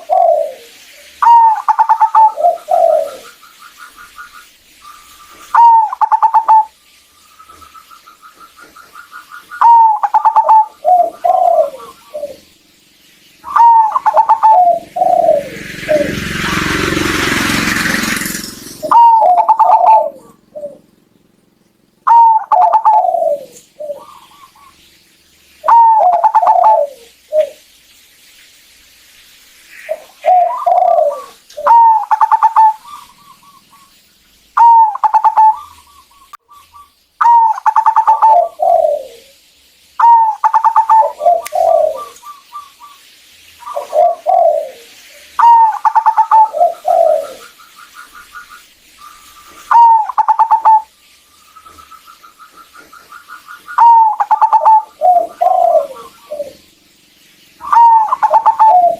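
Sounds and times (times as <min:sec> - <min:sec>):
dove cooing: 0:00.0 - 0:06.8, 0:07.5 - 0:12.5, 0:13.4 - 0:24.8, 0:25.6 - 0:27.6, 0:29.8 - 0:34.0, 0:34.6 - 0:39.4, 0:40.0 - 0:43.0, 0:43.6 - 0:50.9, 0:51.6 - 0:56.7, 0:57.6 - 0:58.9.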